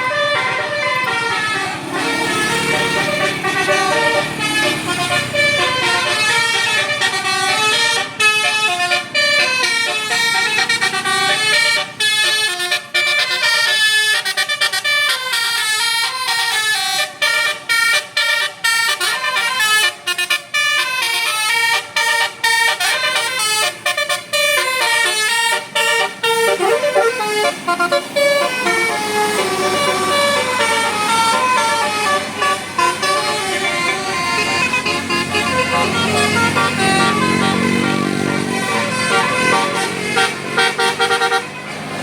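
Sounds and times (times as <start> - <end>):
multi-note musical bus horn: 0.0 - 42.0.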